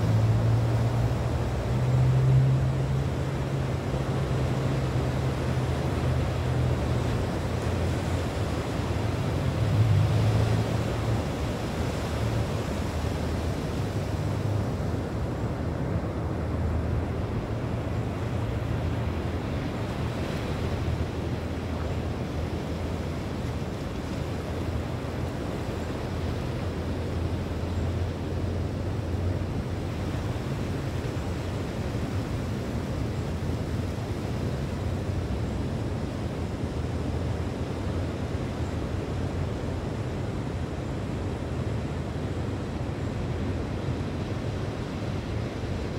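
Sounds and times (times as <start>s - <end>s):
wind rumbling on microphone: 0.0s - 45.9s.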